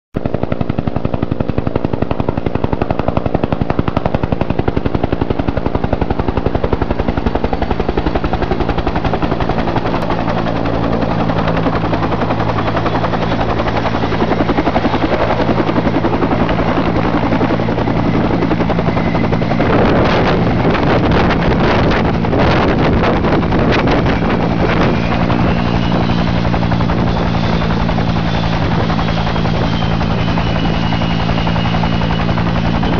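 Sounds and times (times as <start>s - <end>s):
helicopter engine whine: 0.2s - 32.9s
helicopter rotor chopping: 0.2s - 32.9s
wind buffeting microphone: 0.2s - 32.9s.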